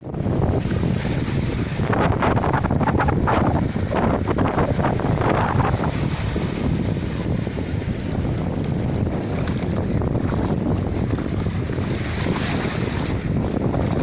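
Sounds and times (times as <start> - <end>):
sea waves washing onto shore: 0.0 - 14.0
wind rumbling on microphone: 0.0 - 14.0.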